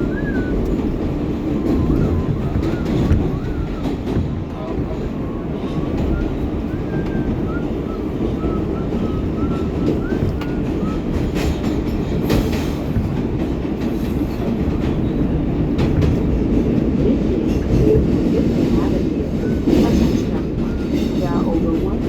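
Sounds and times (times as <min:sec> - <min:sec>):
train wheels rumbling on rail: 0:00.0 - 0:22.0
wheels clacking over rail joints: 0:00.0 - 0:22.0.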